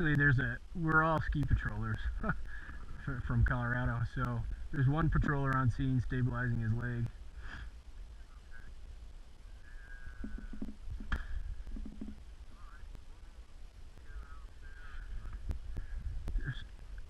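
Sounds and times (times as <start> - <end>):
distant voices calling out: 0.0 - 17.0.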